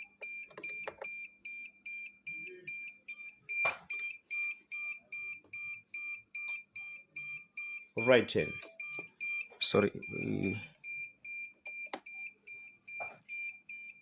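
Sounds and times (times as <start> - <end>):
electronic buzzer beeping: 0.0 - 14.0.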